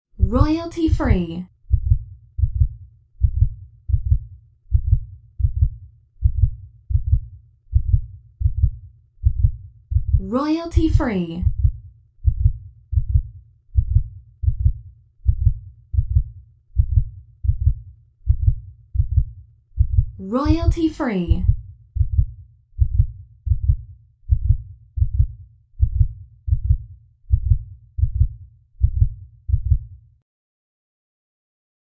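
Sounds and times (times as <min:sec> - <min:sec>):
heartbeat double thumps: 0:01.7 - 0:10.3, 0:11.5 - 0:30.0.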